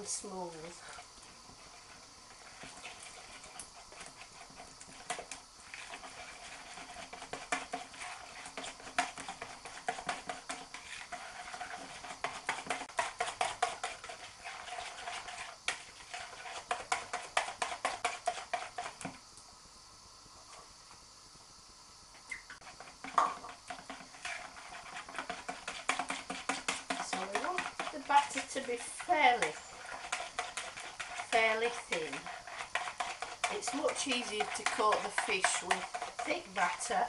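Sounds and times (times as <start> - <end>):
whisk beating batter in glass bowl: 1.6 - 19.1, 22.6 - 37.0.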